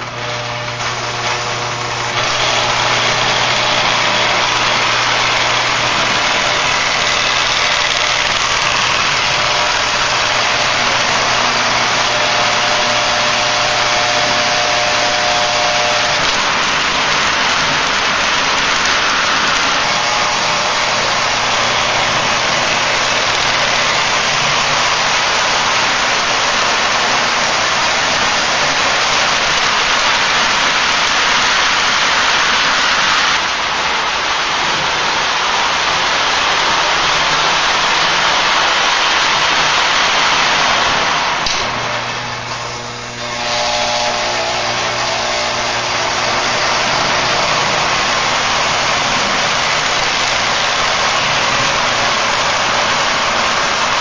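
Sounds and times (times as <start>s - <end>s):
low hum: 0.0s - 33.9s, 38.9s - 54.0s
toy train motor whirring: 0.0s - 54.0s.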